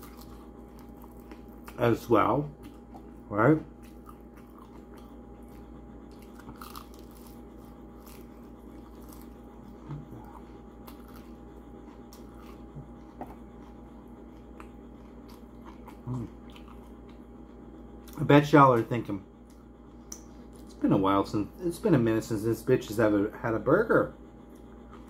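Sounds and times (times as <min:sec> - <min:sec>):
chewing crispy fried chicken: 0:00.0 - 0:20.8, 0:24.4 - 0:25.0
faint steady hum: 0:00.0 - 0:25.0.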